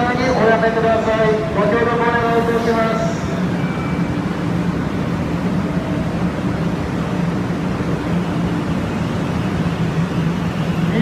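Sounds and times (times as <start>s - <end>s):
train humming at platform: 0.0s - 11.0s.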